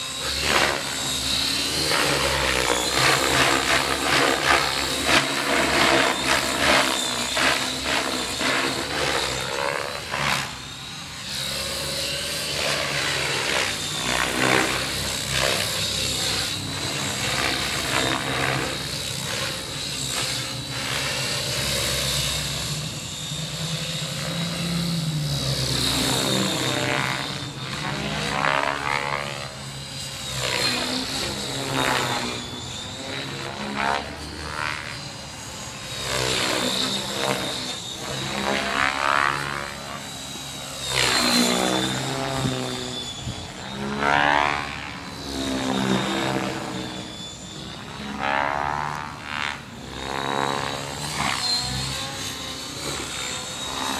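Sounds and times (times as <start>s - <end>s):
model helicopter rotors chopping: 0.0s - 53.9s.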